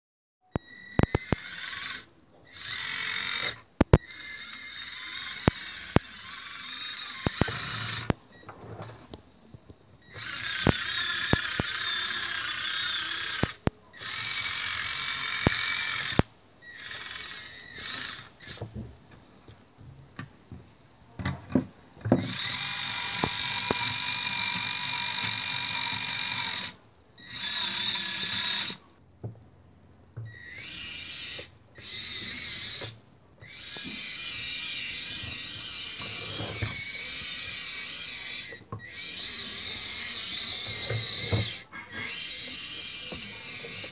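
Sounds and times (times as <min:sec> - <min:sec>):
small electric motors whining: 0:00.6 - 0:08.2, 0:10.0 - 0:18.6, 0:22.2 - 0:28.8, 0:30.3 - 0:43.9.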